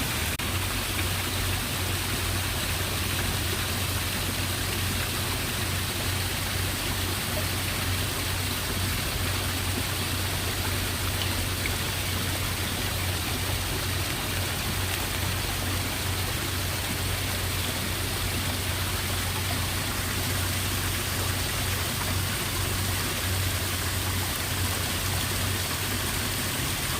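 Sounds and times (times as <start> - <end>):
flowing water rushing: 0.0 - 26.9.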